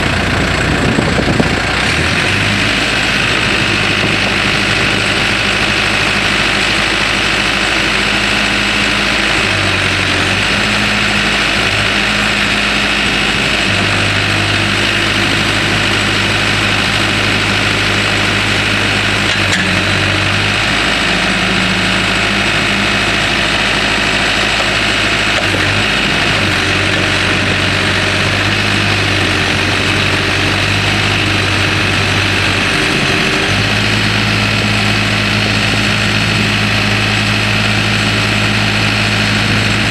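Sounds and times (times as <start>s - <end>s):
diesel backhoe engine running: 0.0s - 39.9s.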